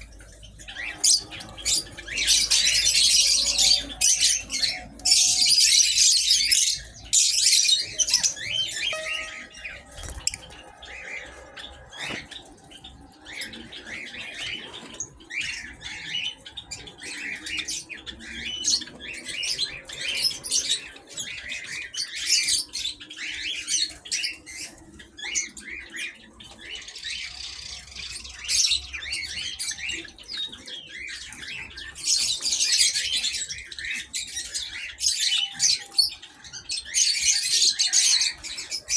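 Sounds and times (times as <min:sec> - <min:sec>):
flock of small birds chattering: 0:00.0 - 0:38.9.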